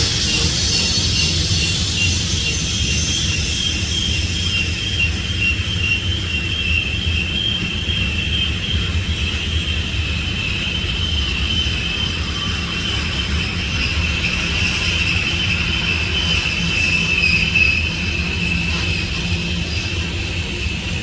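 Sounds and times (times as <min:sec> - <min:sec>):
high wheel squeal: 0:00.0 - 0:21.0
train low rumble: 0:00.0 - 0:21.0.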